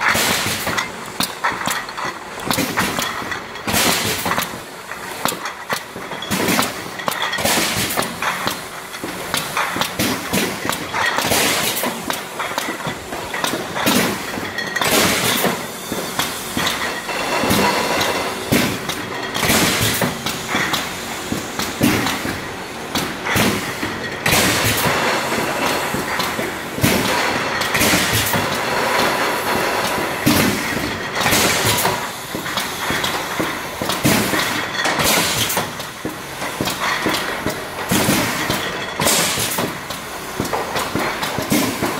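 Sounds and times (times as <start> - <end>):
filling machinery noise: 0.0 - 41.9
metal cans clattering on conveyor: 0.0 - 41.9.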